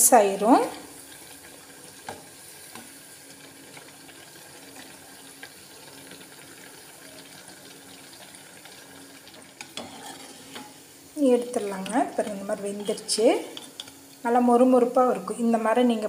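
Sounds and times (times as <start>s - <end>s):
bread deep-frying in oil: 0.0s - 16.0s.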